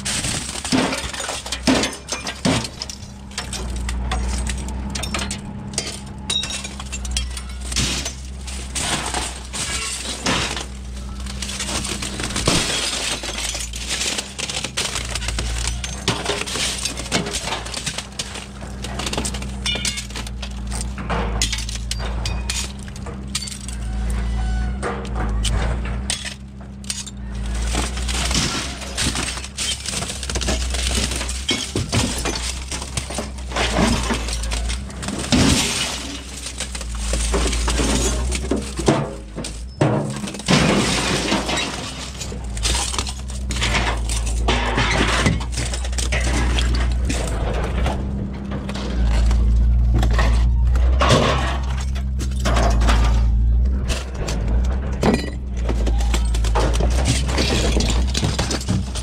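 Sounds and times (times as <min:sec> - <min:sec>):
glass clinking and breaking: 0:00.0 - 0:48.0, 0:48.6 - 0:59.0.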